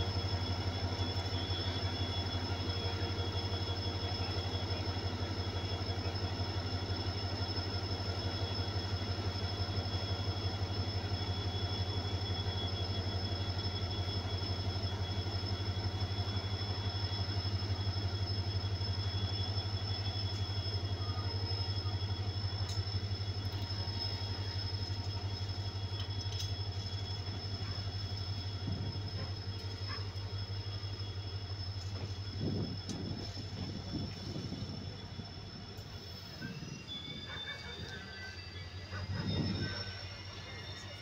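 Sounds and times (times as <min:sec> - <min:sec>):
diesel train engine throbbing hum: 0:00.0 - 0:41.0
faint high whine: 0:00.0 - 0:41.0.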